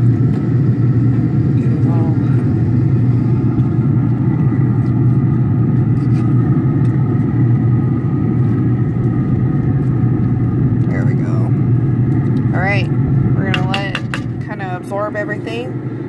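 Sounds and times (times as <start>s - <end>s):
faint whine: 0.0s - 16.0s
grill fan humming: 0.0s - 16.0s.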